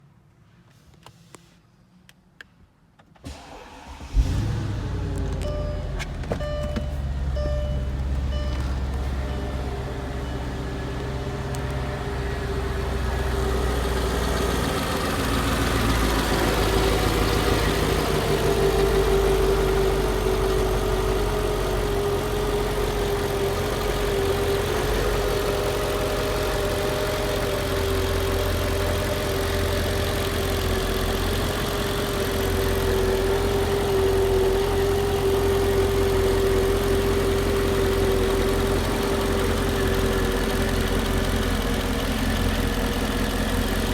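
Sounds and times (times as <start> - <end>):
car engine idling: 3.3 - 43.9.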